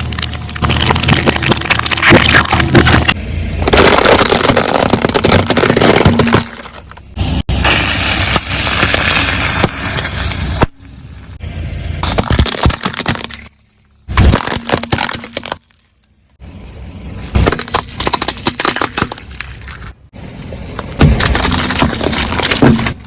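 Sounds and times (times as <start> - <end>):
tyre crushing crunching objects: 0.0 - 11.3, 12.0 - 20.1, 20.7 - 23.0.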